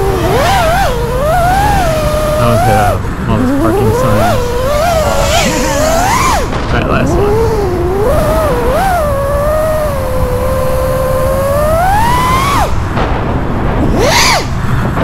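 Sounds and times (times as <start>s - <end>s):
quadcopter motors whining: 0.0s - 13.0s, 13.8s - 14.6s.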